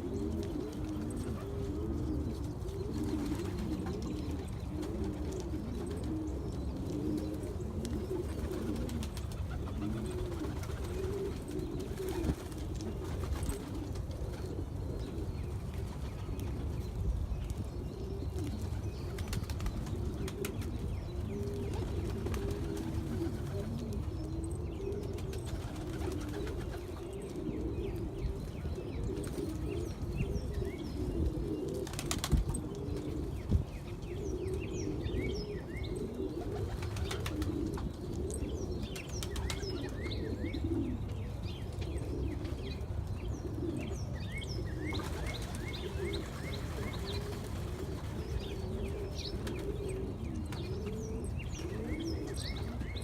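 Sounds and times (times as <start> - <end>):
birds cooing: 0.0 - 53.0.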